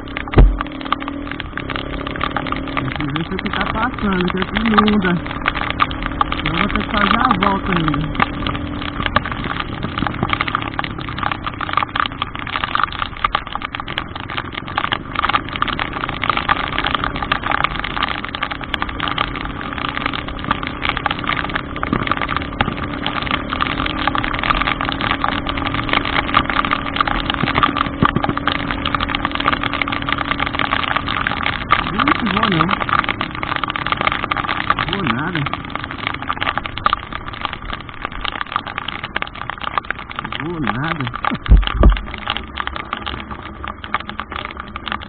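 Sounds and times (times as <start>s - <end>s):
dense hiss and patter: 0.0s - 45.0s
vehicle engine running at low revs: 0.0s - 45.0s.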